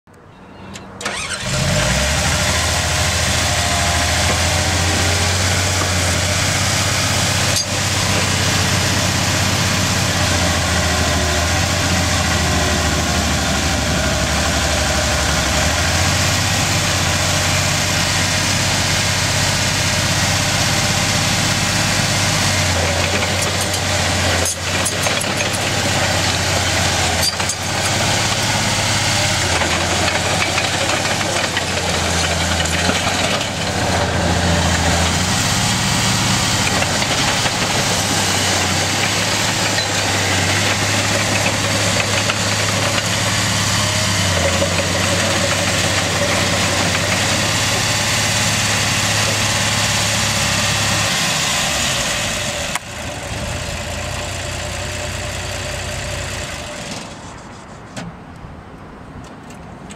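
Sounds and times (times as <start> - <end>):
dozer diesel engine running: 1.0 - 58.0.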